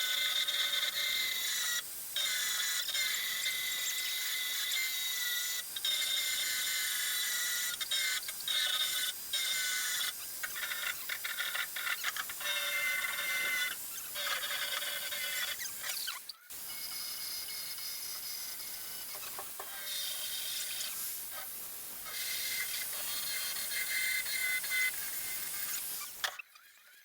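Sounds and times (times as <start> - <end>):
grinder whining on sheet steel: 0.0 - 27.0.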